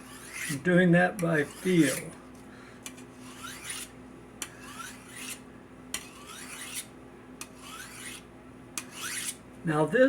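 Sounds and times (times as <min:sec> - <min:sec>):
knife scraping on honing steel: 0:00.0 - 0:02.2, 0:02.8 - 0:09.4.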